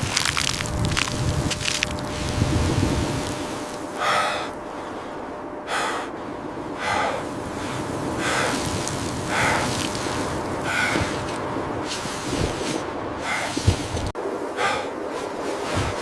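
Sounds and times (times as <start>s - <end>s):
background hiss: 0.0s - 16.0s
person breathing hard: 2.0s - 16.0s.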